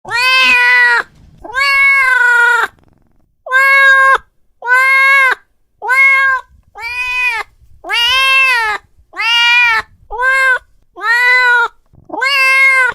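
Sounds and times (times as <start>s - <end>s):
cat meowing: 0.1s - 2.8s, 3.4s - 12.9s.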